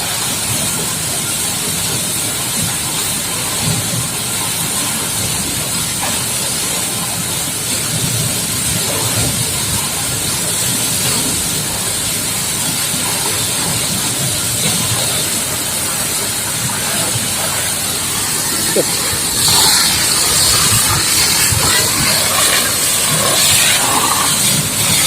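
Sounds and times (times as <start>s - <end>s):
high-pressure water jet hissing: 0.0s - 25.0s.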